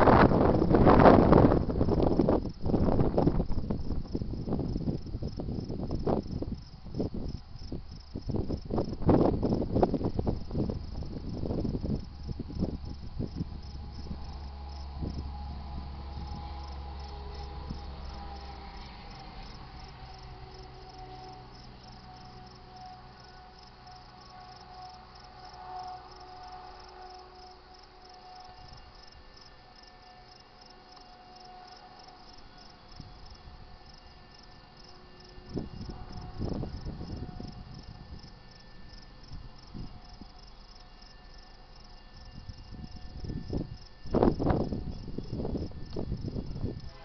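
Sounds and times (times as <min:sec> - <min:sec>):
freight train rumbling: 0:00.0 - 0:47.0.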